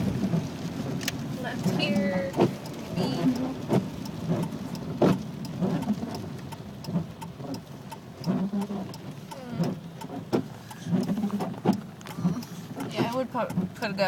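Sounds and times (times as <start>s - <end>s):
engine and road noise: 0.0s - 14.0s
heavy rain on car: 0.0s - 14.0s
windshield wipers sweeping: 0.0s - 14.0s
scattered clicks: 1.0s - 14.0s.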